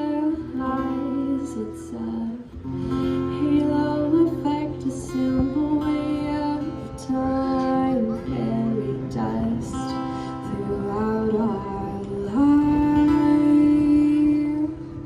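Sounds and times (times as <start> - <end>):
woman singing wordless notes: 0.0 - 15.0.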